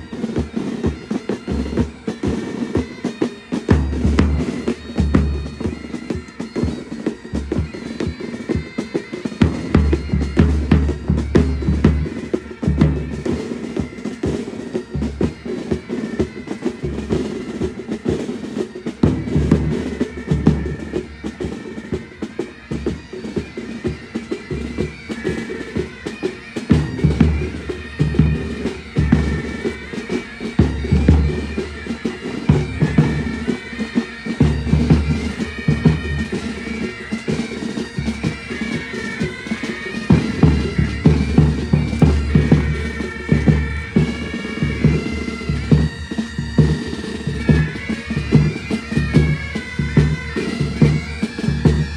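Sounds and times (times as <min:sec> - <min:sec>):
bagpipes playing melody: 0:00.0 - 0:51.9
drums beating: 0:00.0 - 0:51.9.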